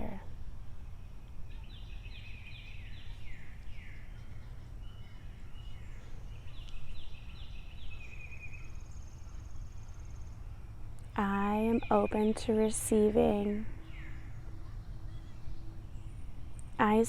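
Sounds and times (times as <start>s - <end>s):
songbird singing: 0.0s - 17.0s
steady low rumble: 0.0s - 17.0s.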